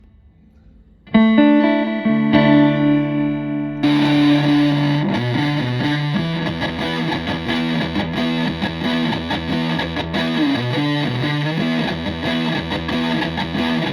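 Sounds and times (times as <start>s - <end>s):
fuzz electric guitar chords and riff: 1.1s - 13.9s.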